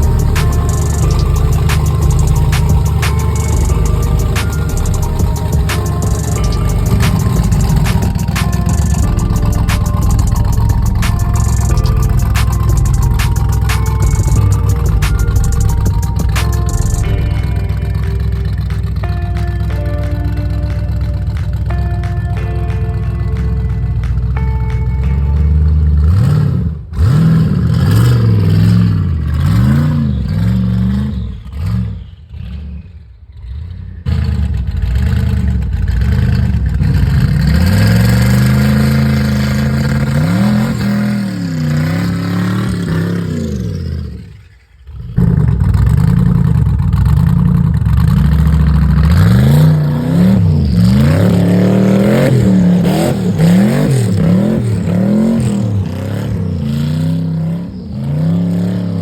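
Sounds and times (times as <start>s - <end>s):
car engine revving hard: 0.0s - 17.0s, 26.0s - 59.0s.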